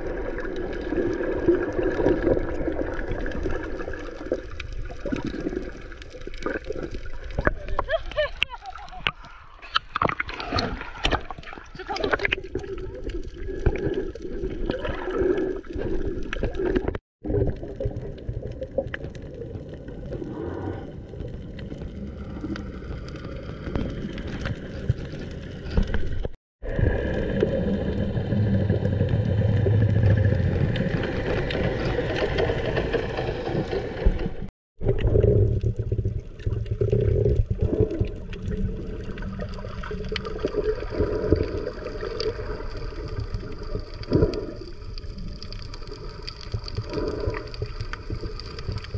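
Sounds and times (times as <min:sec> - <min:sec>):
muffled underwater water rushing: 0:00.0 - 0:48.9.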